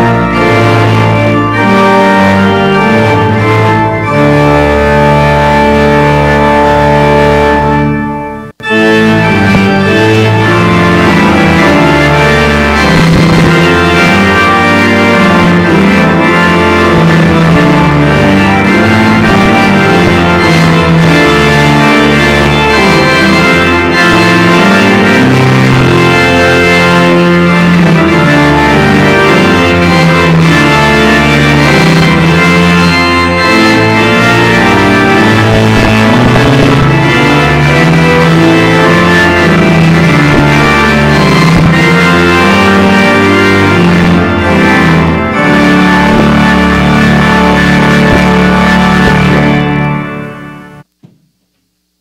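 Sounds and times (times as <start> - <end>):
church organ playing a hymn: 0.0 - 51.0.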